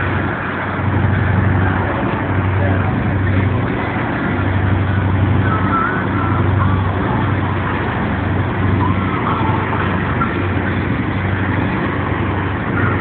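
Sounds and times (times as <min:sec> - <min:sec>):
boat engine humming: 0:00.0 - 0:13.0
rushing wash of wake: 0:00.0 - 0:13.0.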